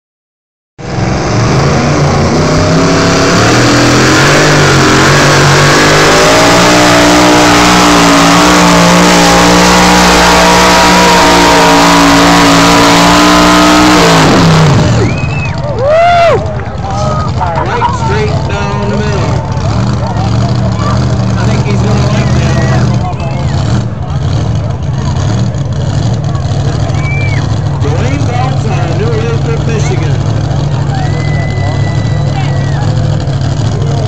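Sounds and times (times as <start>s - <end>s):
truck engine at full throttle: 0.8s - 34.0s.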